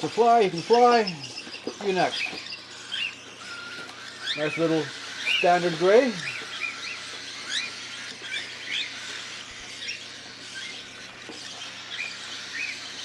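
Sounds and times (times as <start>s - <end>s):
cockatiels chirping: 0.0s - 13.0s.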